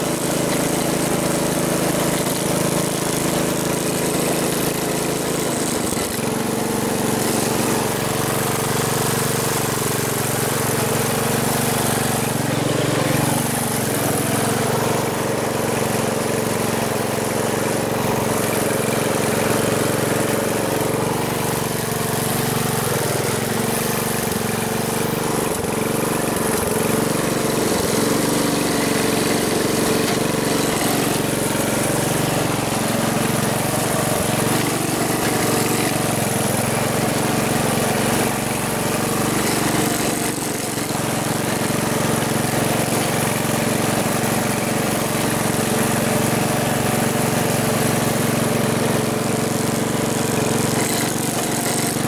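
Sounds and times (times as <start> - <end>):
car engine running steadily: 0.0 - 52.0.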